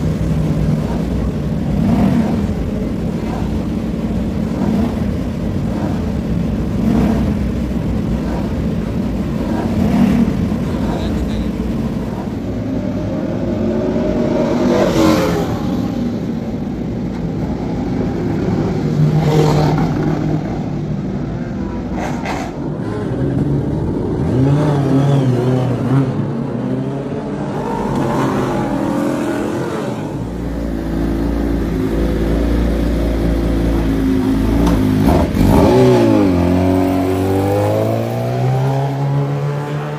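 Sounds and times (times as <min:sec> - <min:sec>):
superbike engines revving: 0:00.0 - 0:39.9.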